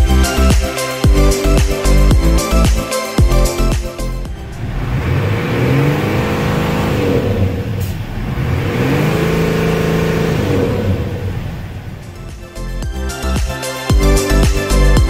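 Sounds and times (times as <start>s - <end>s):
engine revving: 0.0s - 13.4s.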